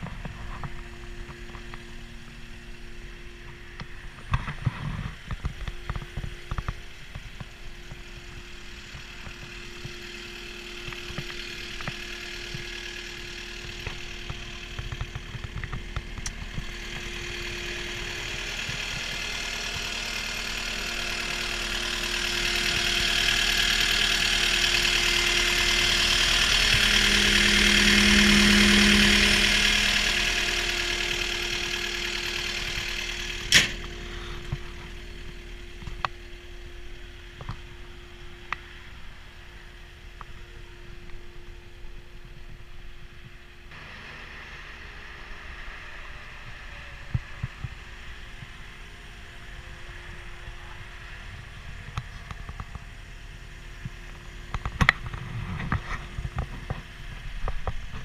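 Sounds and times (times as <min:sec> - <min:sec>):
diesel engine idling with whine: 0:00.0 - 0:58.0.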